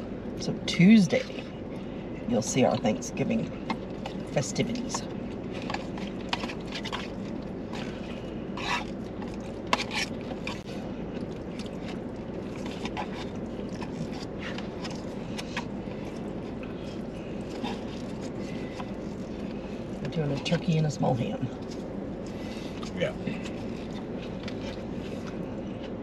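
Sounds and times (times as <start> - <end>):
idling car and fan hum: 0.0 - 26.0
chewing: 1.2 - 26.0.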